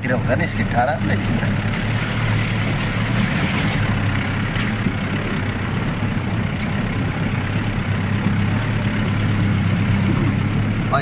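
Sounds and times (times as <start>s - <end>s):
road noise on dirt road: 0.0s - 11.0s
vehicle engine running: 0.0s - 11.0s.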